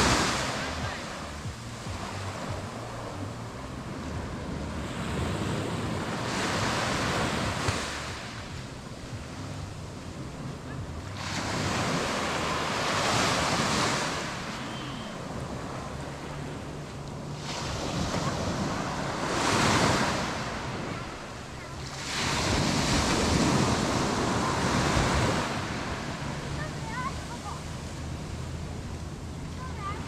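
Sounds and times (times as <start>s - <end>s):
small waves breaking on sand: 0.0s - 30.0s.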